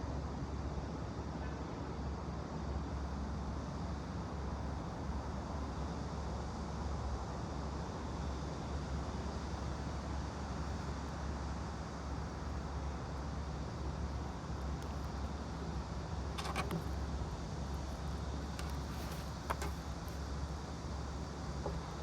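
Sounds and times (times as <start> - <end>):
cafe ambience hiss: 0.4 - 22.0.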